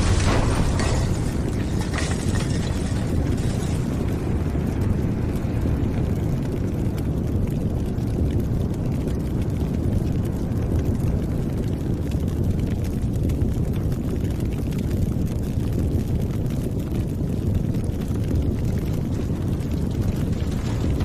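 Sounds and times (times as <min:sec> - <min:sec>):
deep steady rumble: 0:00.0 - 0:21.0.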